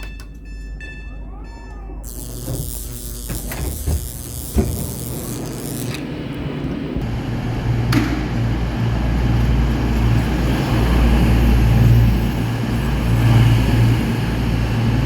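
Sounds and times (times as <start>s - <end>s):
train rumble: 2.2s - 15.0s.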